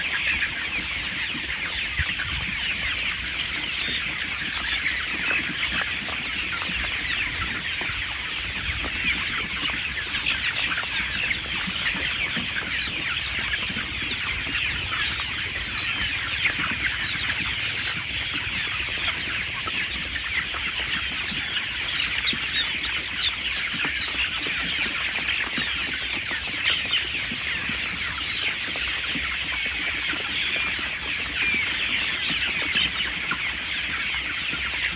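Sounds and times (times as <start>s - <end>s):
chicks cheeping: 0.0s - 34.9s.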